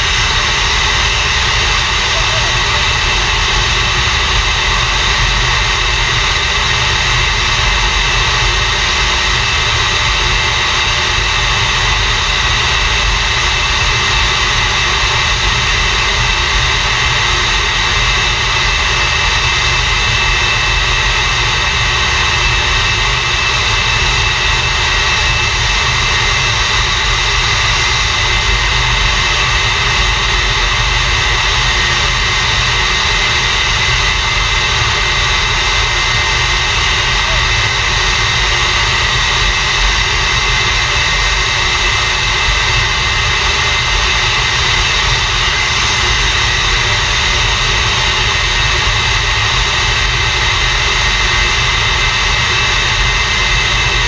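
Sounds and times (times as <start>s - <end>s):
high-pitched engine whine: 0.0s - 54.0s
jet engine roaring: 0.0s - 54.0s.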